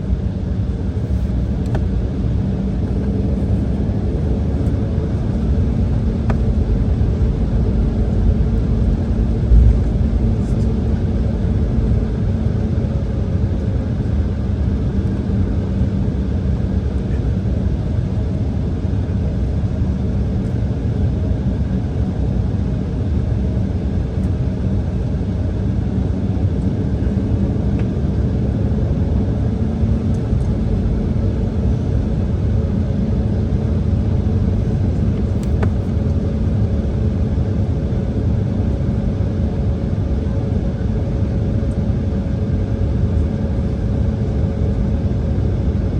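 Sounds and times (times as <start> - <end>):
jet engines rumbling in cabin: 0.0 - 45.9.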